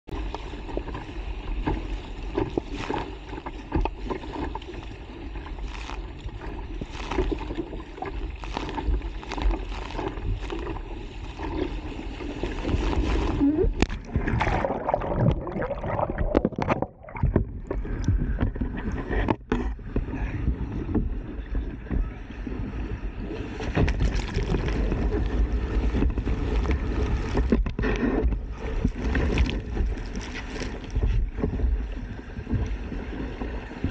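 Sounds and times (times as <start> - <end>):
sea water surging and splashing: 0.1 - 33.9
wind on microphone: 4.8 - 33.9.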